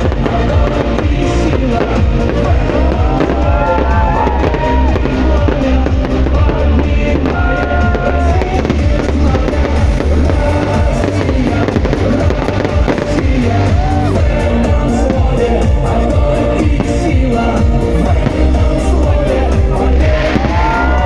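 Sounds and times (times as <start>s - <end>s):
fireworks bangs and crackle: 0.0s - 21.0s
music with heavy bass beat: 0.0s - 21.0s.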